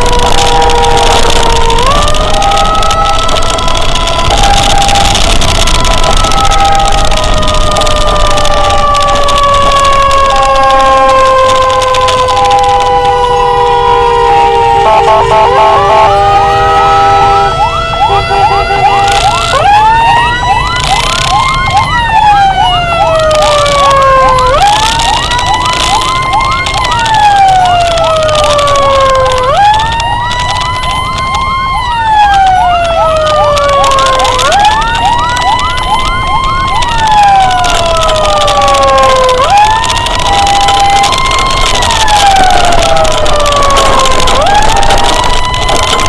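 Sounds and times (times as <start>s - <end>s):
fast yelping siren: 0.0s - 46.0s
road and engine noise: 0.0s - 46.0s
two-tone hi-lo siren: 0.0s - 46.0s
wailing siren: 0.0s - 46.0s.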